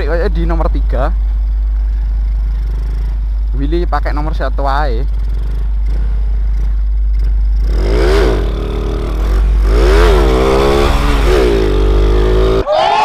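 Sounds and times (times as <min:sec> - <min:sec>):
motorcycle engine revving: 0:00.0 - 0:12.7.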